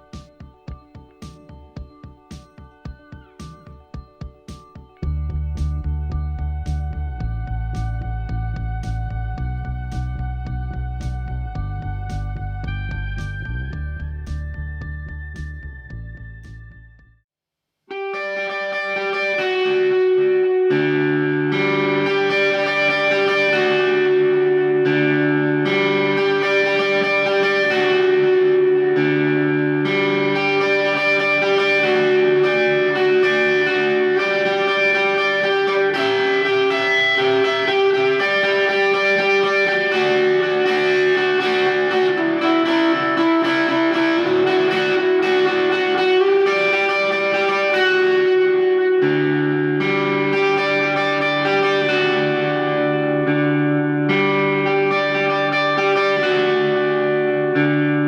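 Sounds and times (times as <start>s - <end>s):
electric guitar sustained notes: 0.0s - 16.9s, 17.9s - 58.0s
droning guitar note: 5.0s - 17.0s, 18.0s - 58.0s.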